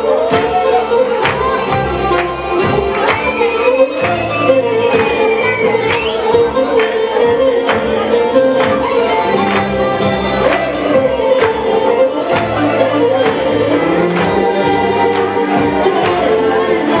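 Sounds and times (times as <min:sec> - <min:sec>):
bouzouki melody: 0:00.0 - 0:17.0.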